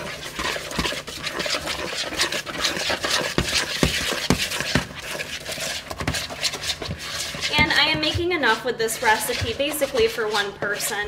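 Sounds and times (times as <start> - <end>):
whisk scraping batter in bowl: 0.0 - 11.0.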